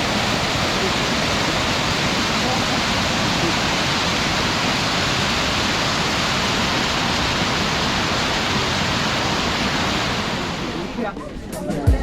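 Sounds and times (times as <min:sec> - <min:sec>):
waterfall roaring: 0:00.0 - 0:11.6.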